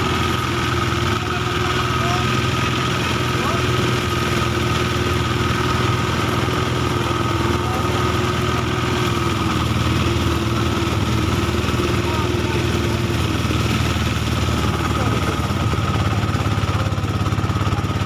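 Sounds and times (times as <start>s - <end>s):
small engine running steadily: 0.0s - 18.0s.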